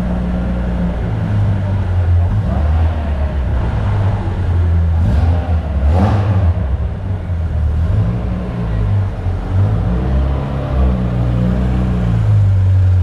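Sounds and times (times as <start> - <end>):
car engine running unevenly: 0.0 - 13.0.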